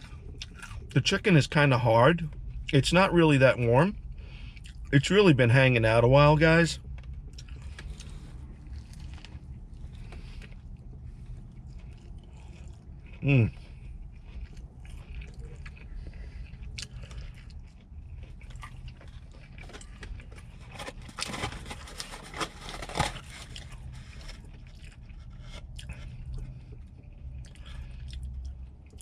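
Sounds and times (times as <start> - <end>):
person chewing crunchy fried chicken: 0.0 - 1.0, 3.9 - 4.9, 6.8 - 29.0
low steady hum: 0.0 - 29.0.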